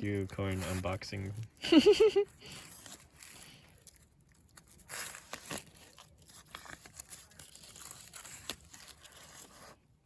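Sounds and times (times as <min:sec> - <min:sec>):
corn husk crinkling and tearing: 0:00.0 - 0:09.9.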